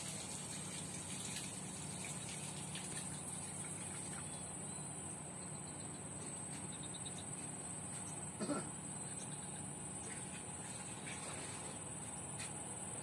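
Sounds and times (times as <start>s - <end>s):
faint low hum: 0.0s - 13.0s
insects trilling: 0.0s - 13.0s.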